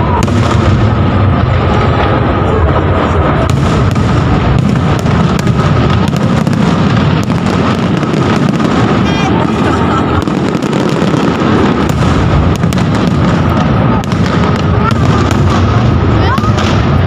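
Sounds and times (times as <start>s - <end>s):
firework bangs and crackles: 0.0s - 17.0s
firework booms rumbling: 0.0s - 17.0s.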